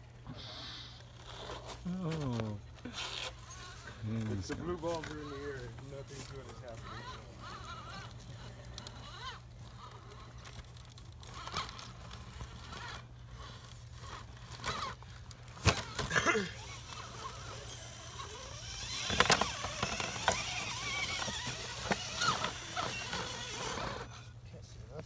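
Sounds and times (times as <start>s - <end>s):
small electric motor whining: 0.2s - 24.4s
tyres scraping on rock: 1.1s - 24.3s.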